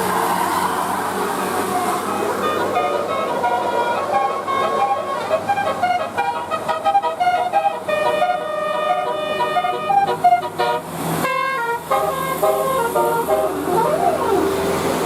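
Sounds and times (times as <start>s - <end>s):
electric bus horns playing tunes: 1.4s - 15.0s.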